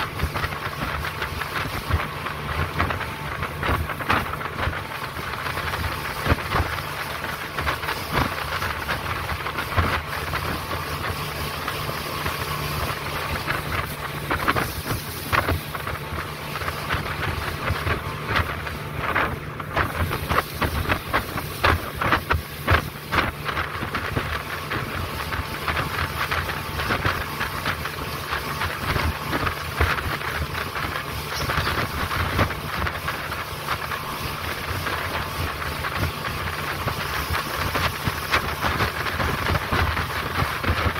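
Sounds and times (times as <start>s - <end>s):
hull slapping waves: 0.0s - 40.9s
rushing water: 0.0s - 40.9s
speedboat engine drone: 0.0s - 40.9s
wind noise on microphone: 0.0s - 40.9s.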